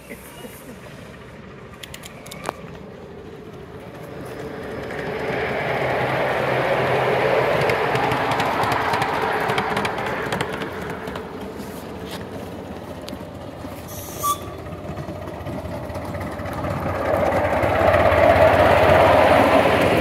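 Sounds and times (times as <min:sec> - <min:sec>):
miniature trains running on track: 0:00.0 - 0:20.0.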